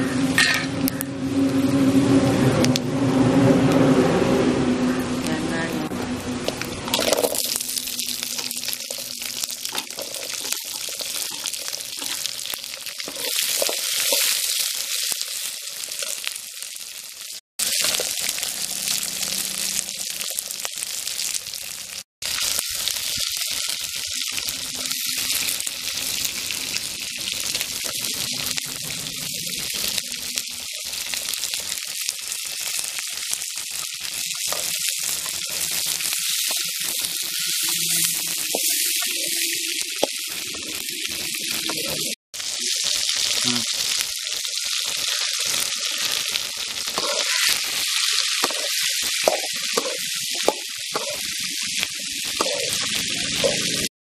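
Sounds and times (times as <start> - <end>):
food sizzling in hot oil: 5.6 - 53.9.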